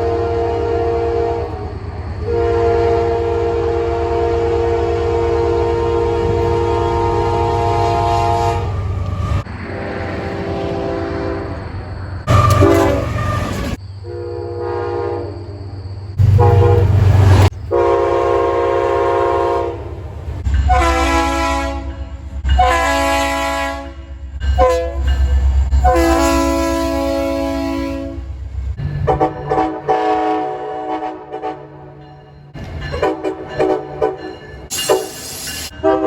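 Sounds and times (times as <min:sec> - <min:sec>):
train air horn blasts: 0:00.0 - 0:11.7, 0:12.3 - 0:15.4, 0:16.2 - 0:19.9, 0:20.7 - 0:25.1, 0:25.7 - 0:28.4, 0:29.0 - 0:32.0, 0:33.0 - 0:36.0
passing train rumble: 0:00.0 - 0:36.0.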